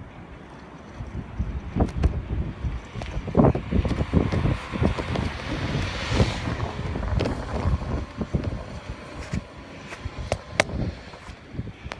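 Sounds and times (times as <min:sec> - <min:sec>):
strong wind buffeting microphone: 0:00.0 - 0:11.9.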